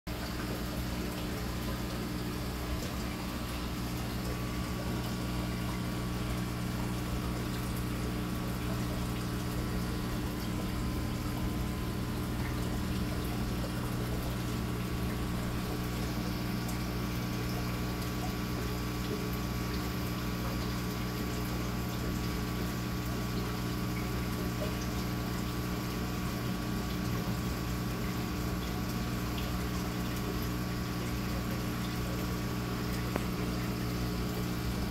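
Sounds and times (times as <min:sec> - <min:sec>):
aquarium pump humming: 0:00.1 - 0:34.9
circulating water: 0:00.1 - 0:34.9.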